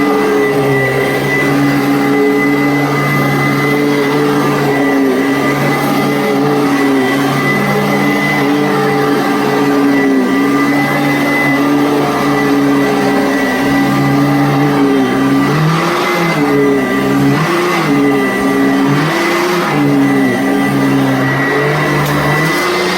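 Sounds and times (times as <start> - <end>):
vacuum cleaner motor whine: 0.0 - 22.9.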